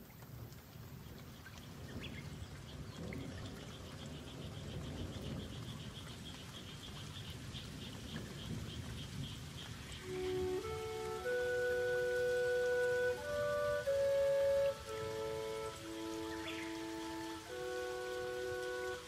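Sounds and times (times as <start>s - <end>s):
rain falling in forest: 0.0s - 19.0s.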